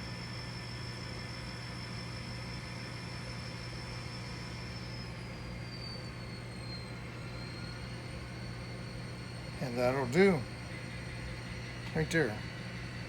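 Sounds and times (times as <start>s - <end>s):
model locomotive humming and whining: 0.0s - 13.0s.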